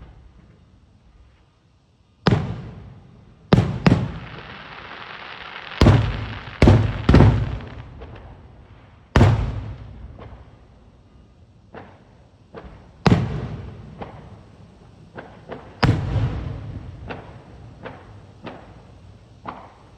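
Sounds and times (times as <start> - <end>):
rolling echo: 2.2 - 10.9, 11.7 - 19.9
fireworks bangs: 2.3 - 10.7, 11.7 - 19.9.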